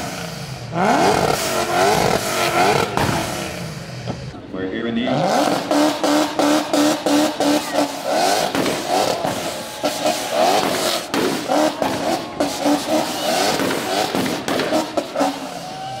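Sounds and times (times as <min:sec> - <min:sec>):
car engine revving in stuttering bursts: 0:00.0 - 0:16.0
exhaust bangs and pops: 0:00.8 - 0:04.4, 0:05.4 - 0:15.7.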